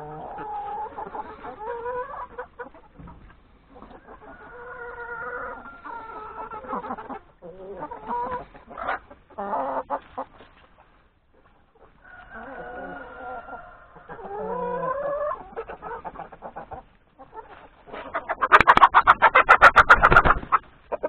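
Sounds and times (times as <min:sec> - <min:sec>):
chickens clucking and calling: 0:00.0 - 0:21.0.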